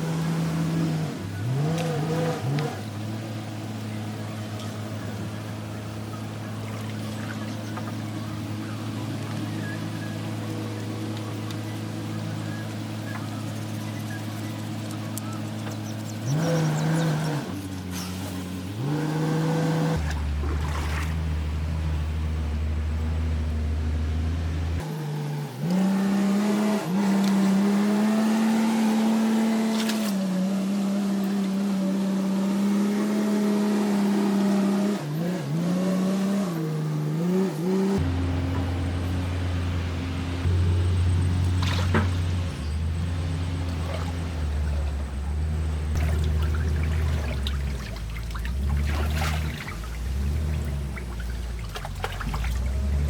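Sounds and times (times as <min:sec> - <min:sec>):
diesel engine revving: 0:00.0 - 0:53.0.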